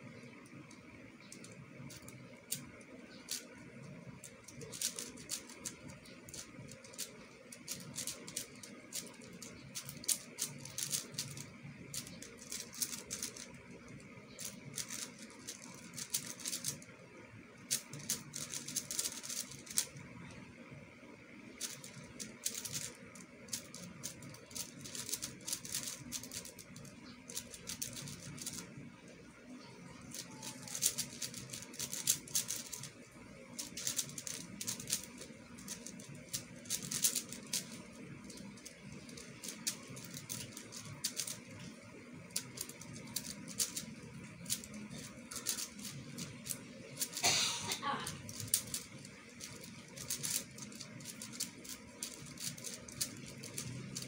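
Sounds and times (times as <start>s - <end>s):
speed cube clicking: 0.0s - 20.4s, 21.3s - 54.0s.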